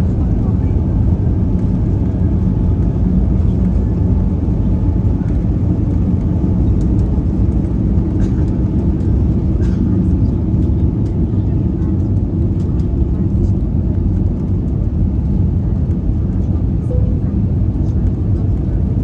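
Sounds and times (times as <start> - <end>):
low rumble of jet engines: 0.0 - 19.0.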